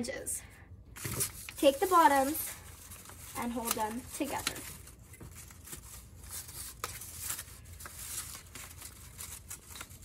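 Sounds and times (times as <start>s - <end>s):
paper strips rustling: 1.0s - 10.0s.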